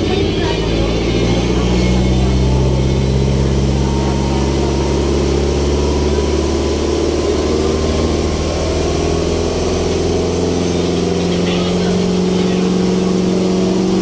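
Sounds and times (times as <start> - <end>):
ferry engine running: 0.0 - 14.0
faint high whine: 0.1 - 14.0.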